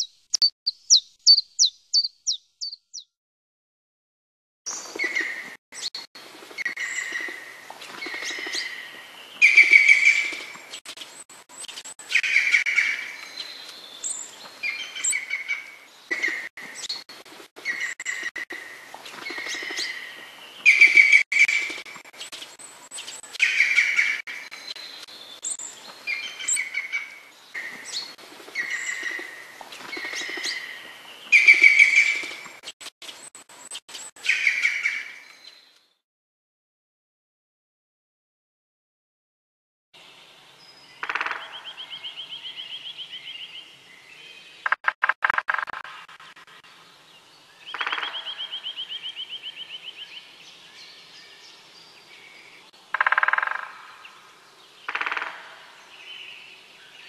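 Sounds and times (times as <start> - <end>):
songbird singing: 0.0 - 3.2, 4.7 - 11.0, 11.7 - 32.5, 40.0 - 57.0.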